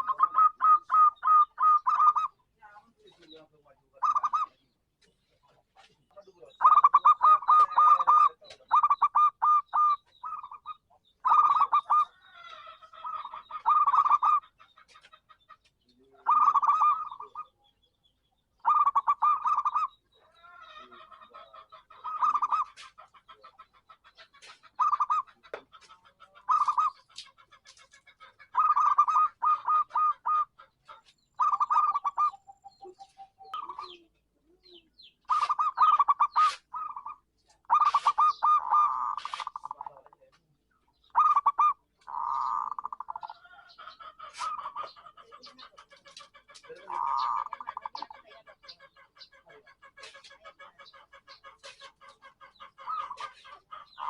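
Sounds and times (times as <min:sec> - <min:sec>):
dove cooing: 0:00.0 - 0:04.7, 0:05.8 - 0:17.7, 0:18.6 - 0:40.4, 0:41.0 - 0:54.0
faint bird chirps: 0:00.0 - 0:54.0.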